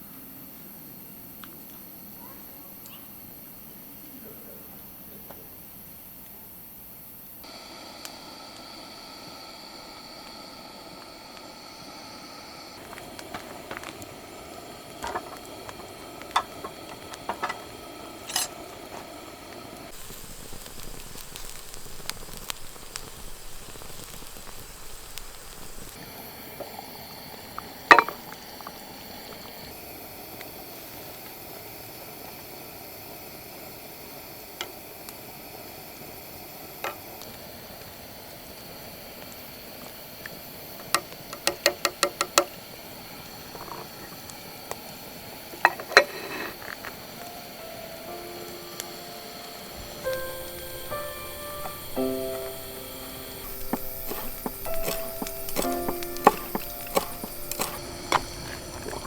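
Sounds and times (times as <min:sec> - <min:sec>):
food bubbling and sizzling in a pot: 0:07.4 - 0:47.6, 0:48.6 - 0:59.0.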